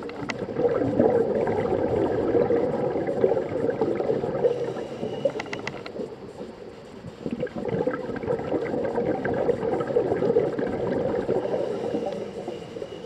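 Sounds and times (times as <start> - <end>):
underwater bubbles gurgling: 0.0 - 13.0.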